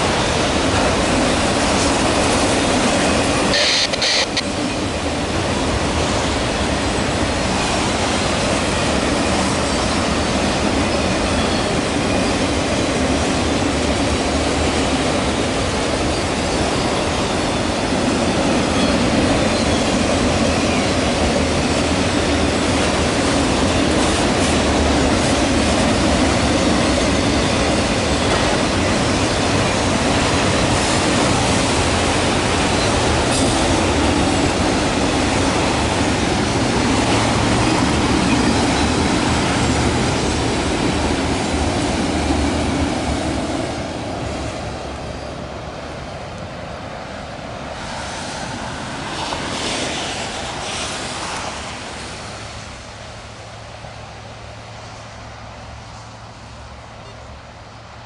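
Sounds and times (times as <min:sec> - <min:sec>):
freight train passing: 0:00.0 - 0:58.0.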